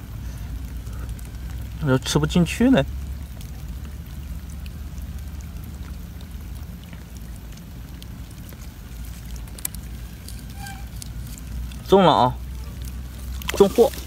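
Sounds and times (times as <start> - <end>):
light rain pattering: 0.0 - 14.0
steady low rumble: 0.0 - 14.0.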